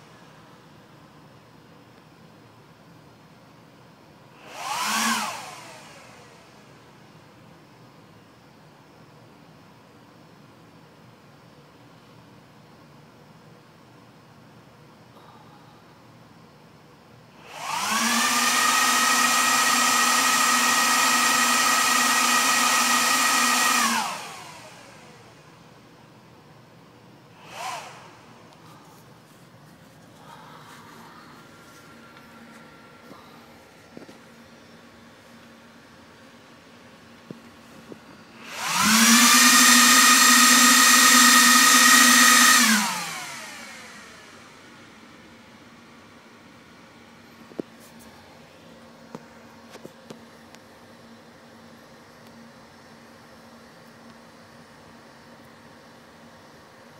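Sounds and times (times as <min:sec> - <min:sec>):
server cooling fans whining: 0:00.0 - 0:56.9.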